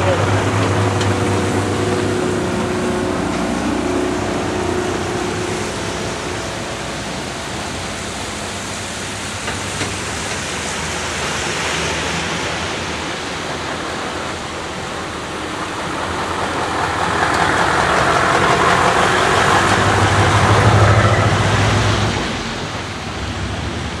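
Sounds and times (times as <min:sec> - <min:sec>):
truck diesel engine rumble: 0:00.0 - 0:24.0
tyre road hiss: 0:00.0 - 0:24.0.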